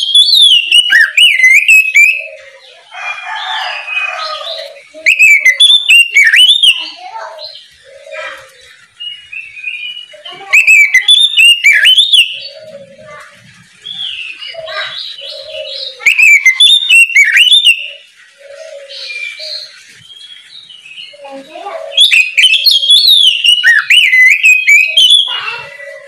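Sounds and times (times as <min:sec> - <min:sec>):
bird whistled song: 0:00.0 - 0:02.6, 0:03.5 - 0:13.2, 0:13.8 - 0:21.2, 0:21.9 - 0:26.0.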